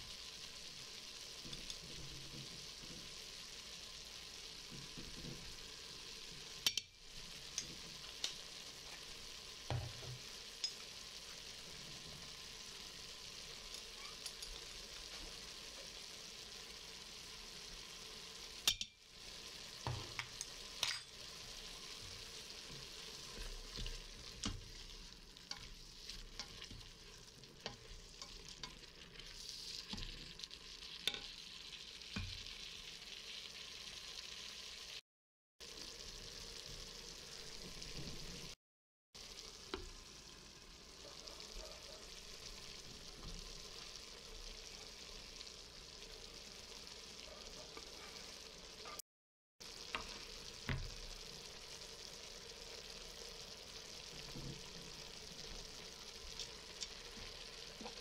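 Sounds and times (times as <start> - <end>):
onions and meat sizzling: 0.0 - 35.0, 35.6 - 38.6, 39.2 - 58.0.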